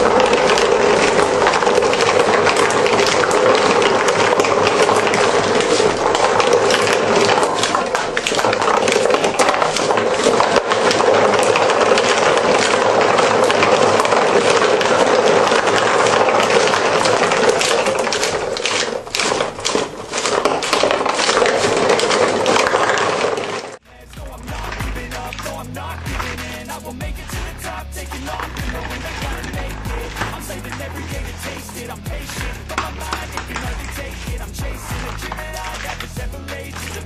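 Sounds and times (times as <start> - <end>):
marbles rattling through marble run: 0.0 - 37.0.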